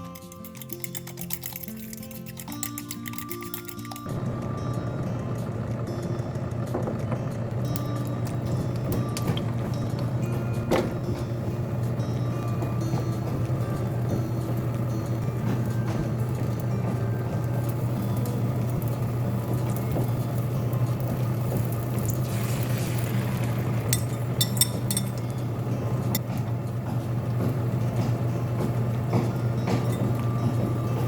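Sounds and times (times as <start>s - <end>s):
steady low hum: 0.7s - 31.0s.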